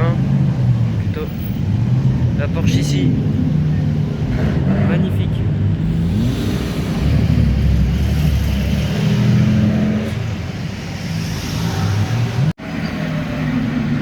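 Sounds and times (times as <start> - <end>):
sports car engines revving past: 0.0 - 14.0.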